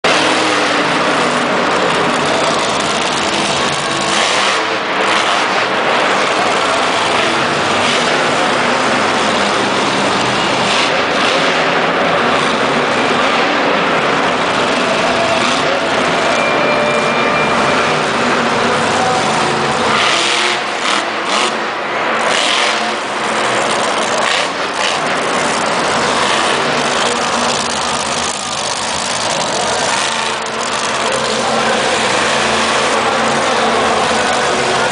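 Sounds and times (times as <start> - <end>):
truck engine at high revs: 0.0 - 34.9.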